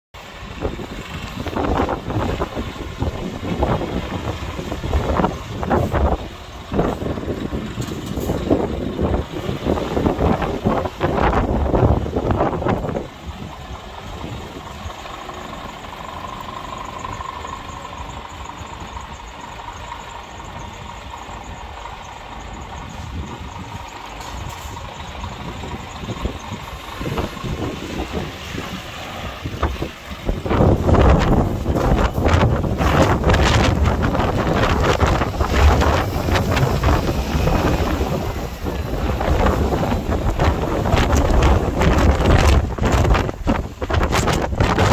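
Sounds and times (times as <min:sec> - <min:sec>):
diesel truck engine at low revs: 0:00.1 - 0:44.9
heavy low rumble: 0:00.2 - 0:44.9
wind buffeting microphone: 0:00.2 - 0:44.9.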